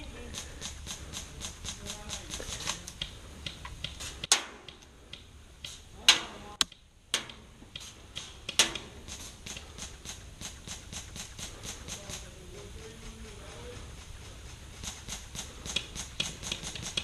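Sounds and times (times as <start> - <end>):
airsoft guns rapid clicking shots: 0.0 - 17.0
sharp airsoft gun shots: 0.3 - 4.8, 5.6 - 13.2, 14.8 - 17.0.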